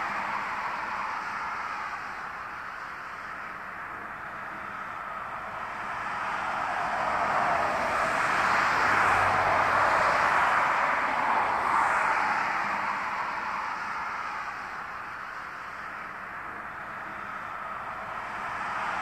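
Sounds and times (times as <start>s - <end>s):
distant jet engines roaring: 0.0s - 19.0s.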